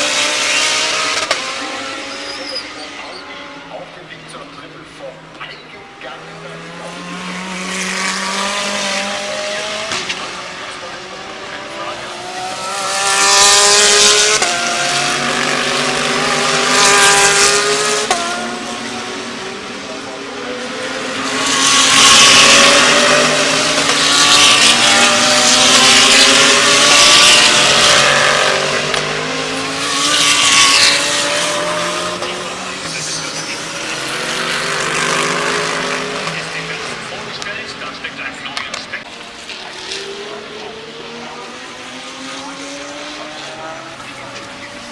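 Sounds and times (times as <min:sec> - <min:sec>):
race cars passing: 0:00.0 - 0:44.9.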